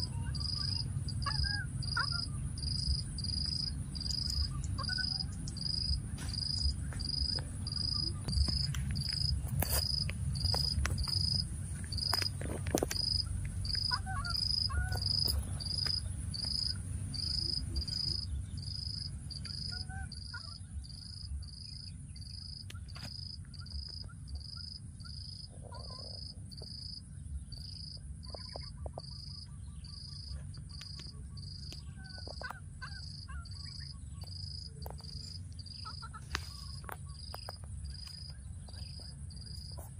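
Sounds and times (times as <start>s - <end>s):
insect chirping: 0.0s - 39.9s
insect drone: 0.0s - 39.9s
low rumble: 0.0s - 39.9s.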